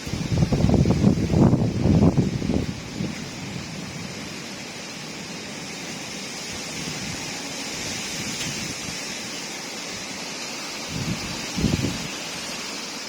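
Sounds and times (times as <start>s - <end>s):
wind and rain: 0.0s - 13.0s.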